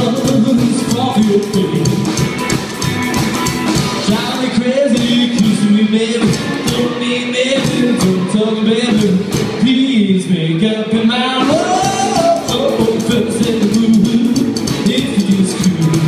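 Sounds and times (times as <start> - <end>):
man singing lead vocal: 0.0 - 2.1, 4.0 - 16.0
drum kit: 0.0 - 16.0
electric guitar: 0.0 - 16.0
upright double bass: 0.0 - 16.0.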